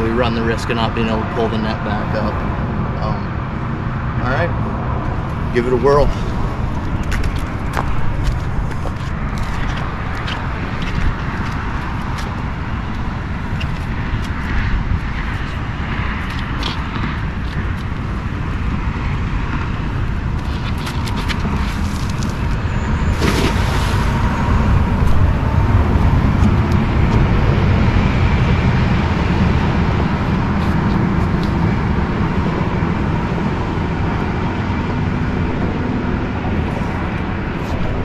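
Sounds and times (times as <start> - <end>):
road vehicle passing: 0.0 - 38.0.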